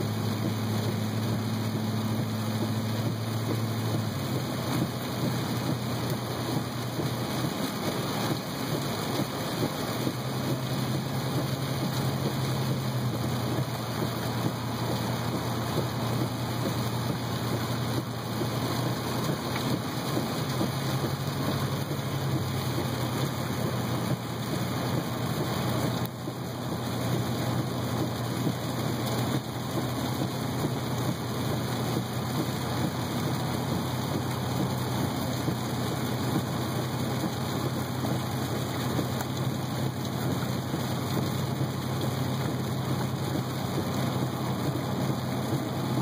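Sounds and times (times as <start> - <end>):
car engine and wet road hum: 0.0 - 46.0
rain hitting a car: 0.0 - 46.0.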